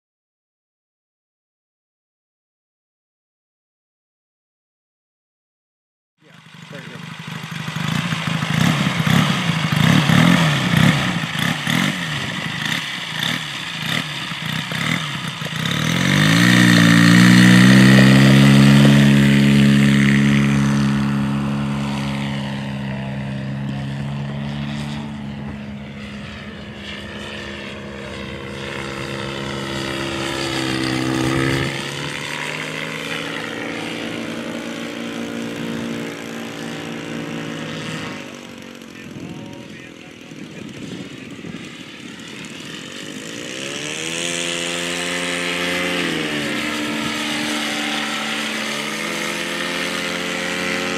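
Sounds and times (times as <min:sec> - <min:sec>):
model aircraft engine droning: 0:06.2 - 0:50.9.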